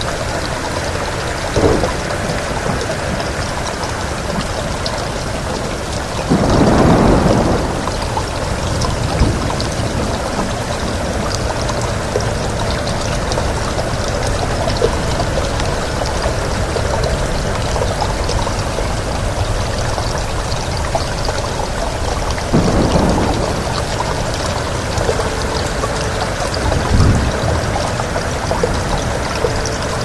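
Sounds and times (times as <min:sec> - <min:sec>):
steady rain: 0:00.0 - 0:30.0
wind: 0:00.0 - 0:30.0.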